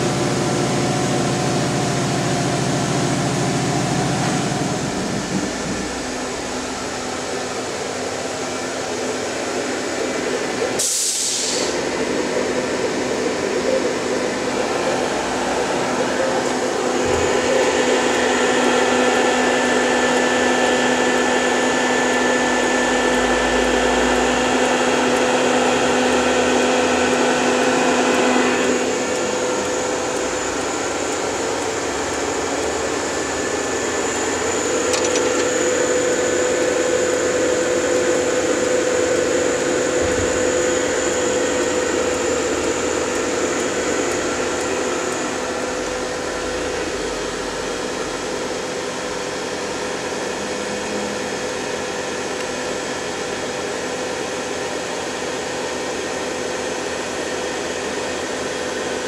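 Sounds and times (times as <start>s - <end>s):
machine fans and motors whirring: 0.0s - 59.0s.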